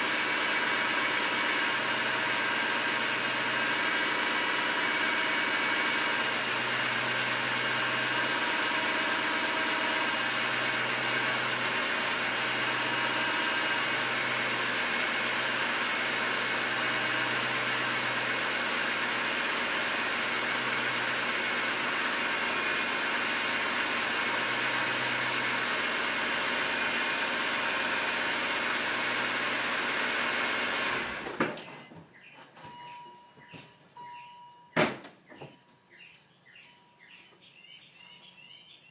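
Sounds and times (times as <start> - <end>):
car engine idling: 0.0 - 31.3.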